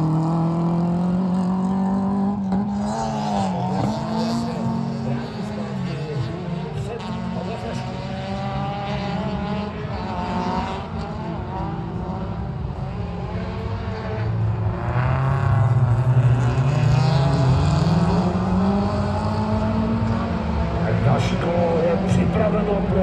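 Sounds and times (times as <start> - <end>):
car accelerating hard: 0.0 - 23.0
racing car engines: 0.0 - 23.0.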